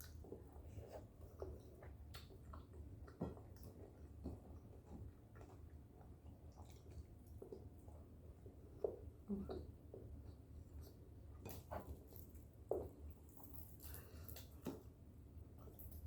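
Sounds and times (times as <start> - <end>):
soft chewing: 0.0 - 16.0.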